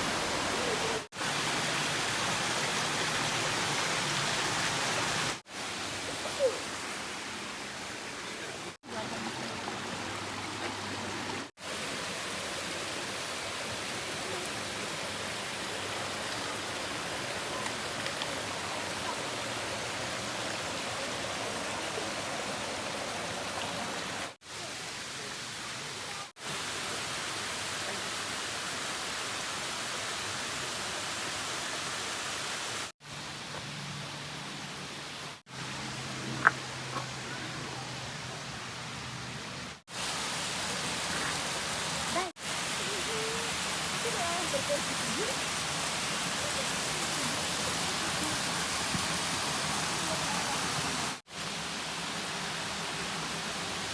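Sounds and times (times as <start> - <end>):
waterfall rushing: 0.0 - 33.4, 34.6 - 53.9.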